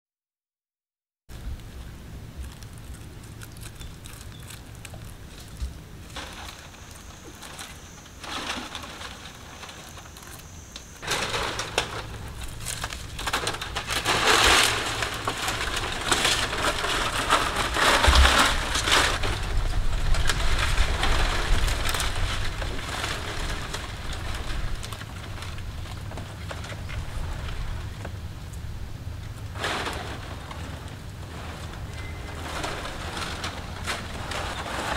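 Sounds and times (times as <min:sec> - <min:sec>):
dry palm fronds rustling: 0:01.3 - 0:34.9.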